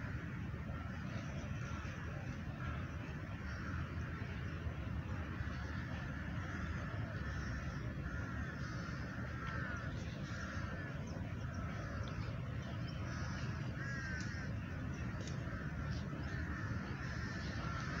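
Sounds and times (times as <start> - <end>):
crow-like bird calls: 0.0 - 4.3, 5.3 - 18.0
steady low rumble: 0.0 - 18.0.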